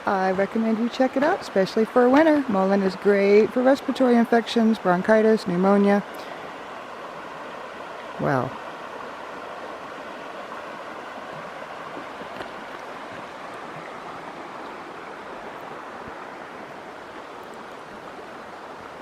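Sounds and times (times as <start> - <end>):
creek flowing: 0.0 - 19.0.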